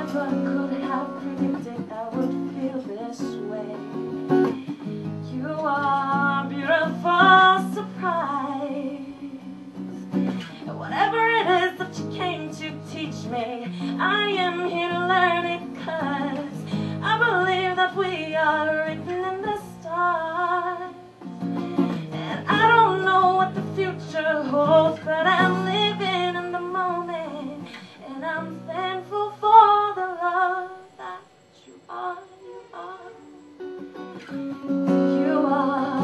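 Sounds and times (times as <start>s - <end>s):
woman singing: 0.0s - 21.2s, 21.8s - 33.6s, 34.2s - 36.0s
strummed acoustic guitar: 0.0s - 29.8s, 32.5s - 36.0s.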